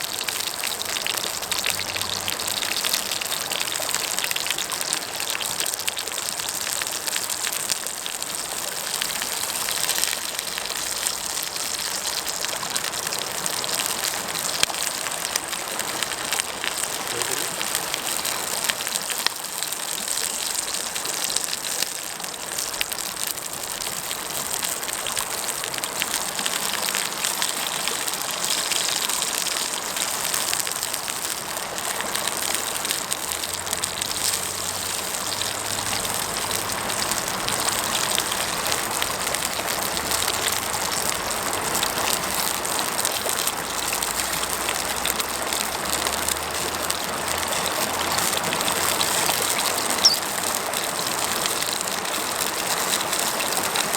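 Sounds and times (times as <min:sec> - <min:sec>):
mountain stream rushing: 0:00.0 - 0:53.9.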